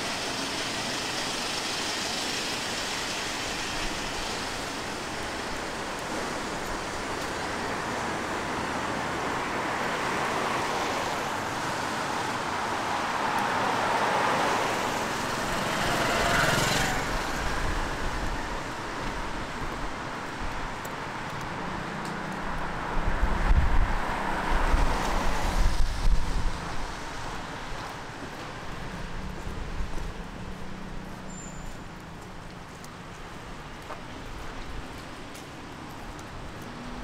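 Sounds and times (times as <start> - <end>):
car tyres hissing on wet street: 0.0 - 37.0
rain: 0.0 - 37.0
wet traffic noise: 0.0 - 37.0.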